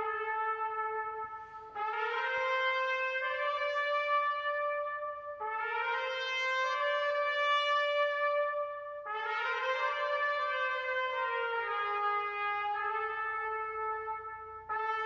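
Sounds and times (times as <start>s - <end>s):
brass instruments in harmony: 0.0s - 15.0s.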